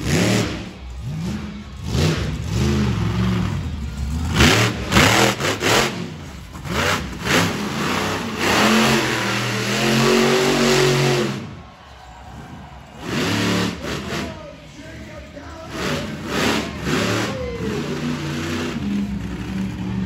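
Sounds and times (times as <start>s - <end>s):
monster truck engines revving: 0.0s - 20.0s.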